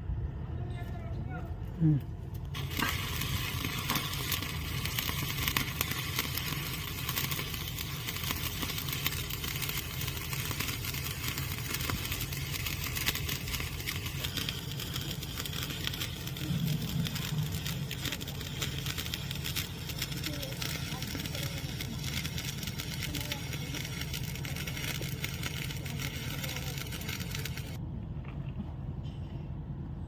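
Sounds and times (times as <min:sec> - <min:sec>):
low hum: 0:00.0 - 0:30.0
welding arc crackling: 0:02.4 - 0:27.8.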